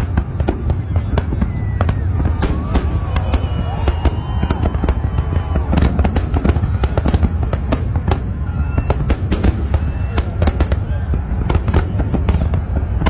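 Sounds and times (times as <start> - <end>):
low rumble of explosions: 0.0 - 13.0.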